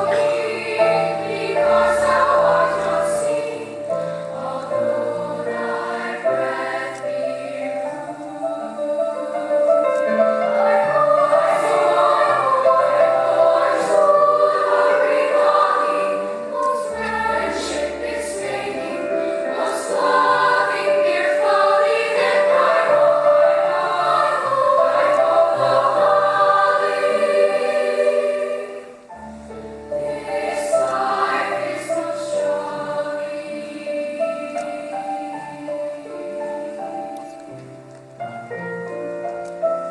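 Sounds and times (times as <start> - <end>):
choir singing in parts: 0.0 - 37.1.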